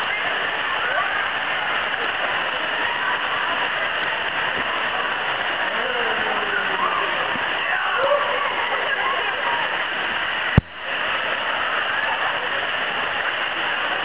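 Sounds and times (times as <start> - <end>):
faint distant voices: 0.0 - 14.0
waterfall pouring into pool: 0.0 - 14.0.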